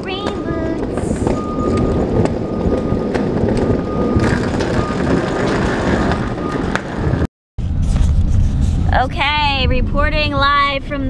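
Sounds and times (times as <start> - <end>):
traffic rumble with wet hiss: 0.0 - 11.0.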